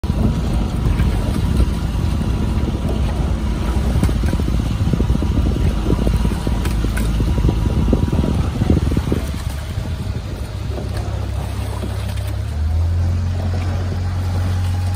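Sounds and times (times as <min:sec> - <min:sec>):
motorboat engine rumbling: 0:00.0 - 0:14.9
wind buffeting microphone: 0:00.0 - 0:14.9.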